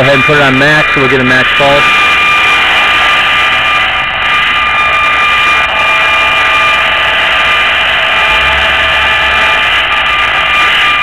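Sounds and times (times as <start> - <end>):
steady whistling tones: 0.0 - 11.0
electronic buzzing hiss: 0.5 - 10.6.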